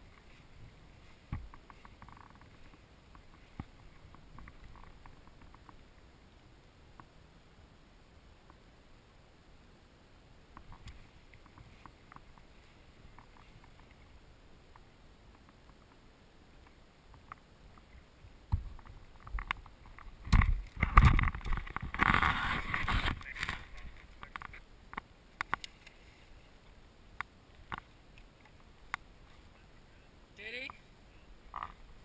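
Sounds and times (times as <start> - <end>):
paddle splashing water: 0.0 - 7.0, 10.6 - 32.0.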